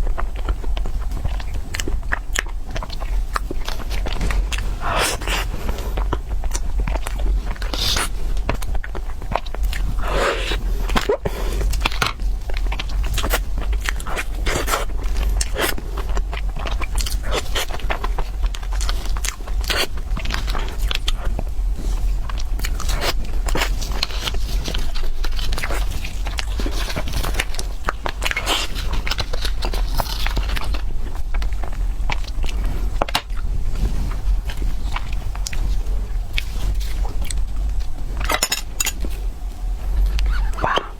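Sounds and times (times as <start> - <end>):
person chewing crunchy food: 0.0 - 40.9
steady low hum: 0.0 - 40.9.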